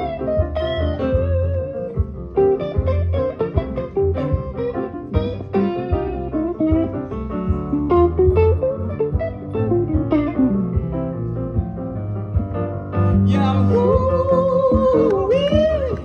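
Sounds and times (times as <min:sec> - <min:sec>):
guitar music: 0:00.0 - 0:16.0.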